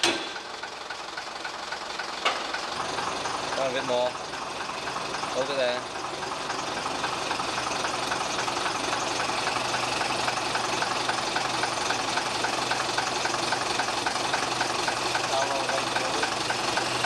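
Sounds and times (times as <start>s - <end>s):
brake tester mechanical drone: 0.0s - 17.0s
light regular ticking: 1.4s - 17.0s.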